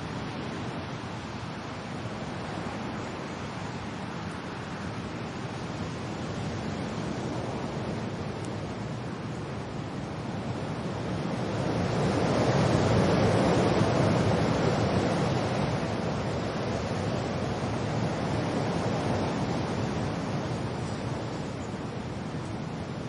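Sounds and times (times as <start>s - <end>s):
rain: 0.0s - 23.0s
wind: 0.0s - 23.0s.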